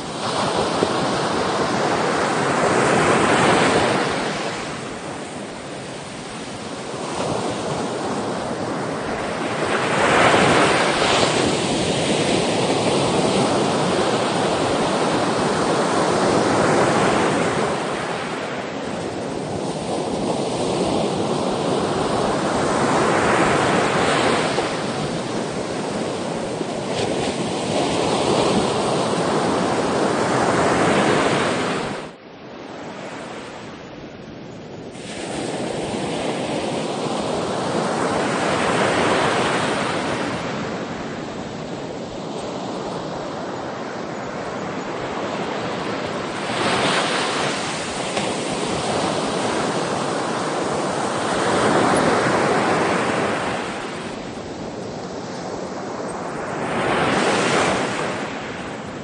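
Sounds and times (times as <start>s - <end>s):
ocean waves breaking ashore: 0.0s - 59.0s.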